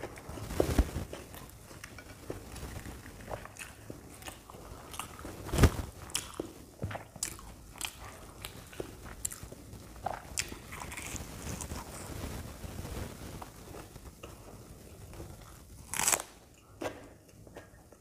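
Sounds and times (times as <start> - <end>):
crunching and chewing food: 0.0 - 18.0.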